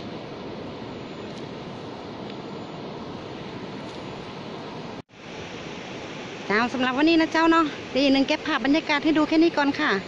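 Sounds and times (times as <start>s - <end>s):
rushing river water: 0.0s - 10.0s
wind: 0.0s - 10.0s.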